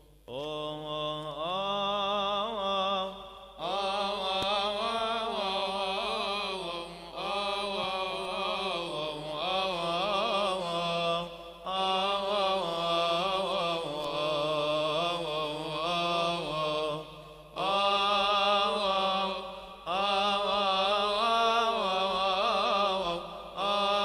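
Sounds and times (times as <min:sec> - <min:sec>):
unaccompanied voices chanting a hymn: 0:00.0 - 0:24.0.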